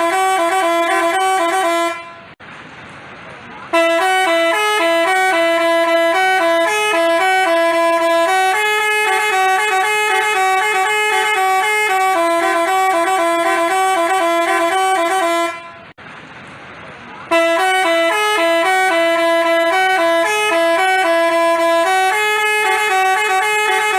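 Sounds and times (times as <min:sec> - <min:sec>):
multi-tone horn melody: 0:00.0 - 0:02.4, 0:03.7 - 0:15.9, 0:17.3 - 0:23.9.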